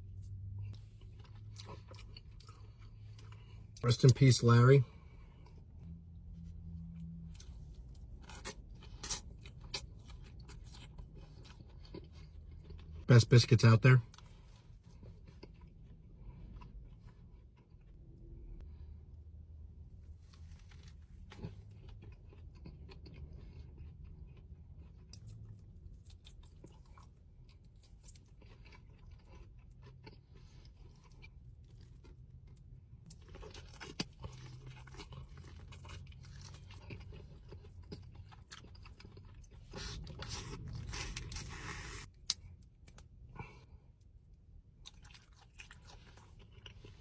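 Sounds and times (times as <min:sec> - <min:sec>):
person chewing crunchy food: 0:00.1 - 0:04.2, 0:04.9 - 0:13.1, 0:14.1 - 0:18.8, 0:20.1 - 0:47.0.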